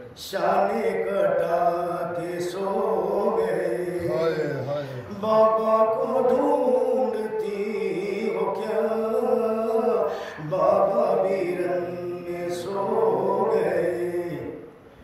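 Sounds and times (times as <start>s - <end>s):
man singing a lament: 0.2s - 14.6s.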